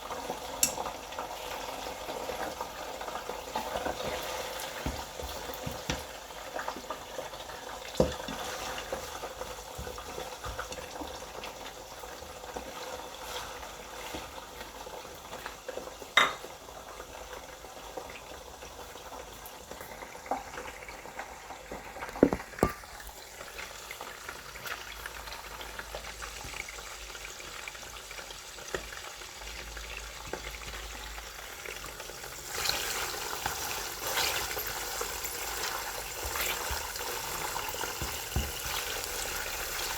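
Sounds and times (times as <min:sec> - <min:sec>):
food deep frying in oil: 0:00.0 - 0:39.9.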